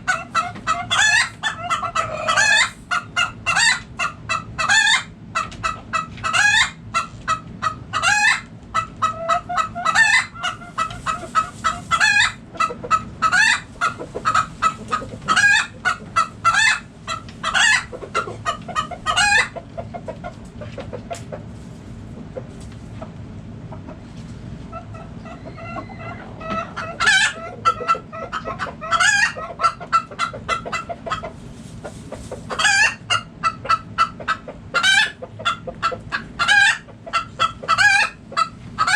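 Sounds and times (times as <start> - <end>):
chickens clucking and squawking: 0.0 - 38.9.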